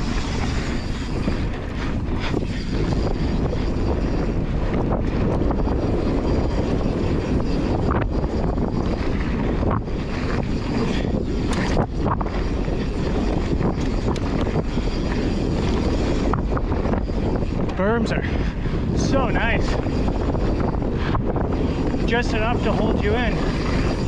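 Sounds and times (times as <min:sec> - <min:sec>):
bike clicks and rattles: 0:00.0 - 0:24.0
wind on microphone: 0:00.0 - 0:24.0.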